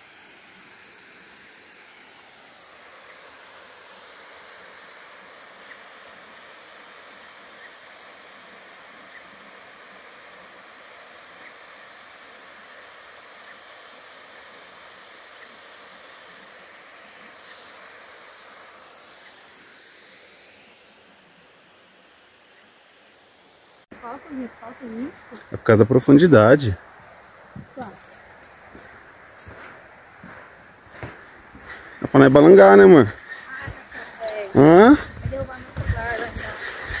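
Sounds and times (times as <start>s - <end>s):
waterfall rushing into pool: 0.0s - 24.4s, 25.3s - 37.0s.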